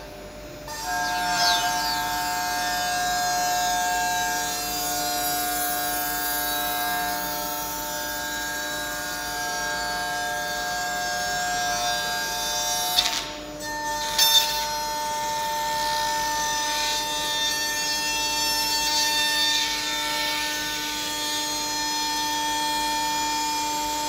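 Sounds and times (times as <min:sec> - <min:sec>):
machine high-pitched whine: 0:00.0 - 0:24.0.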